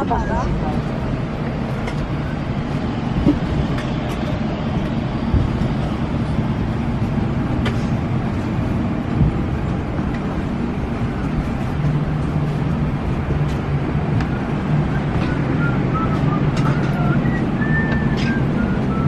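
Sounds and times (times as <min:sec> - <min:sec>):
cabin ventilation hum: 0:00.0 - 0:19.0.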